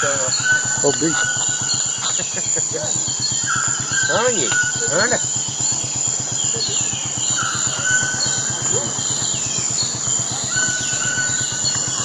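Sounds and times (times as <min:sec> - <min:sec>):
birds calling: 0:00.0 - 0:12.0
high-pitched insect drone: 0:00.0 - 0:12.0
low pulsing hum: 0:00.0 - 0:12.0.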